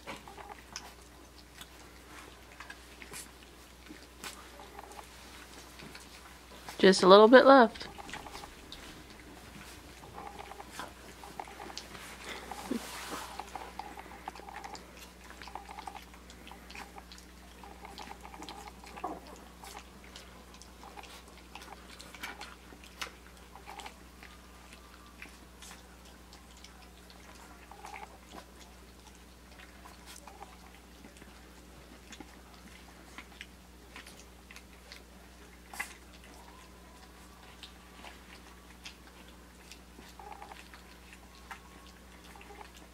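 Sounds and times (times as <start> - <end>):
puppies lapping and chewing: 0.0 - 42.9
steady low hum: 0.0 - 42.9.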